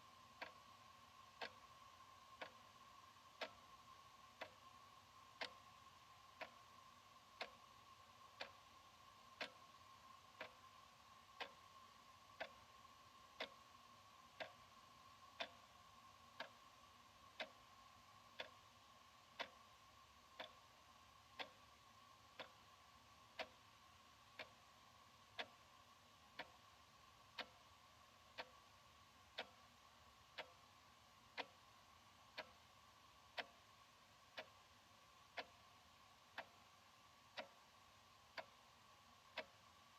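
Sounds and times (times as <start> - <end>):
faint steady hum: 0.0 - 39.9
wall clock ticking: 0.0 - 39.9.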